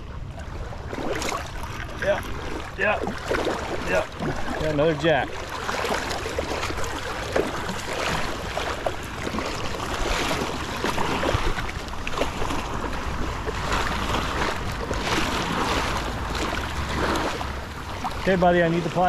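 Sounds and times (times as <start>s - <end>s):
fish splashing: 0.0s - 19.0s
water splashing at shoreline: 0.0s - 19.0s
wind buffeting microphone: 0.0s - 19.0s.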